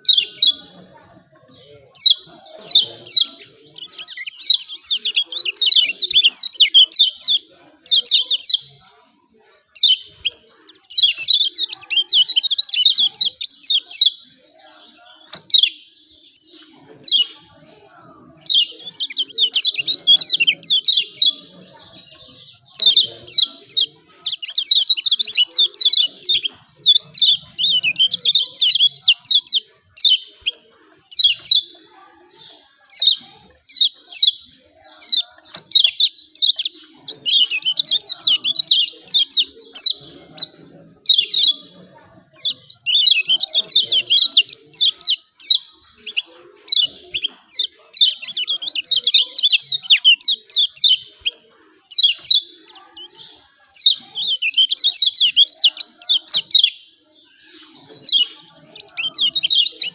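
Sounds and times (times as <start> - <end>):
bird chattering: 0.0 - 59.9.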